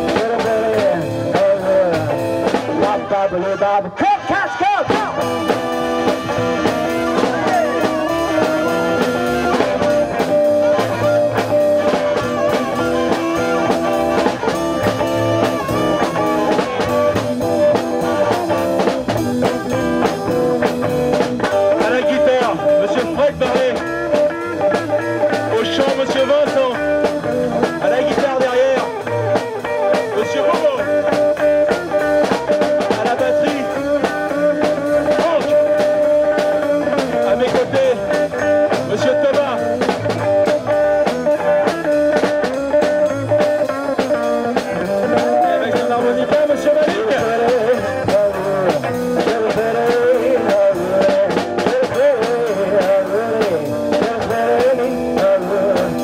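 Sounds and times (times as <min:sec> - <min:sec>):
drum kit: 0:00.0 - 0:03.4, 0:04.0 - 0:56.0
electric guitars: 0:00.0 - 0:56.0.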